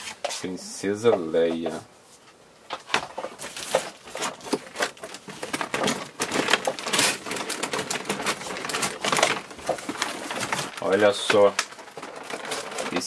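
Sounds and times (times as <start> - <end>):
cardboard and paper rustling: 1.5 - 13.0.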